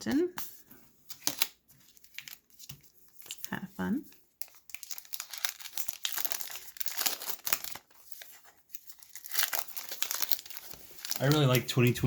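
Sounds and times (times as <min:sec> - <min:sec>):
plastic wrapper crinkling and tearing: 0:01.1 - 0:12.0.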